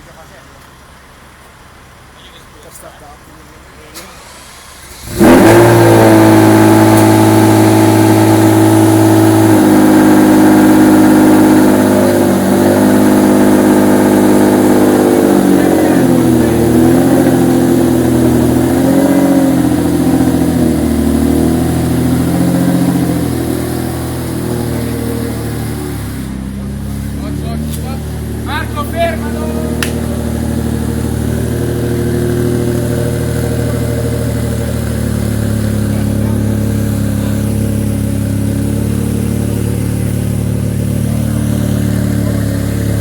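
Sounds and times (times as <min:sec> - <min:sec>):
sports car engine starting and idling: 0:00.0 - 0:43.0.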